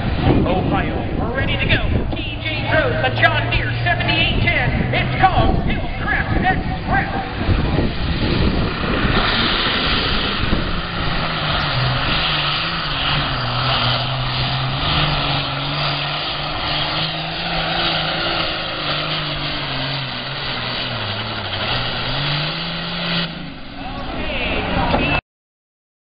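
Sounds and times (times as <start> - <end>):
tractor diesel engine at full throttle: 0.0 - 25.2.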